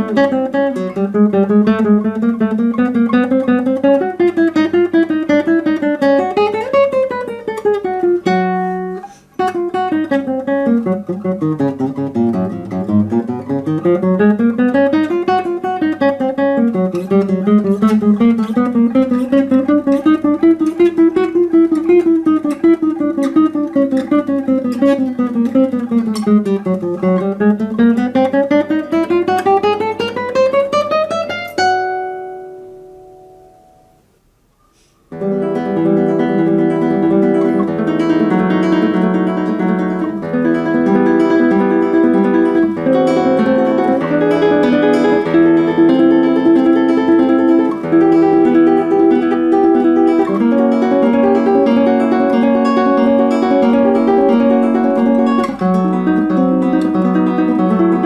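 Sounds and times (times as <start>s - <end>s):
classical guitar arpeggios: 0.0s - 58.0s.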